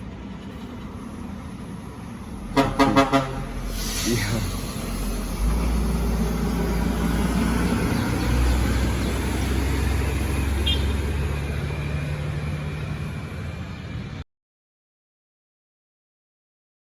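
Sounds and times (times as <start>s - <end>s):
heavy vehicle engine running: 0.0s - 14.2s
traffic noise: 0.0s - 14.2s.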